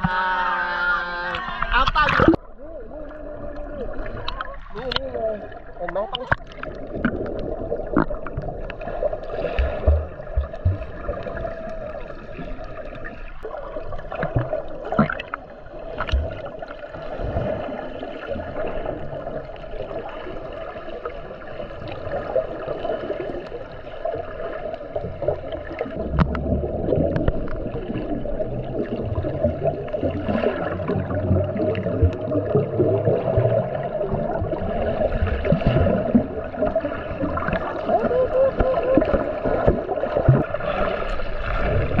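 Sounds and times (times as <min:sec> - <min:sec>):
sea water gurgling and sloshing: 0:00.0 - 0:42.0.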